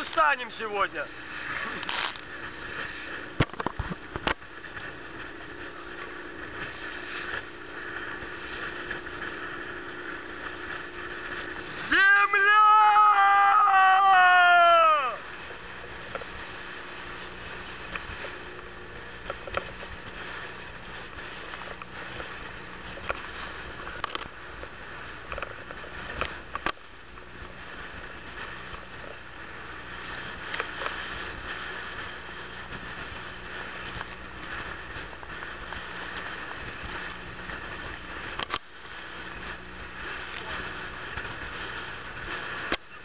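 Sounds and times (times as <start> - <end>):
boat engine hum: 0.0 - 43.0
water rushing past hull: 0.0 - 43.0.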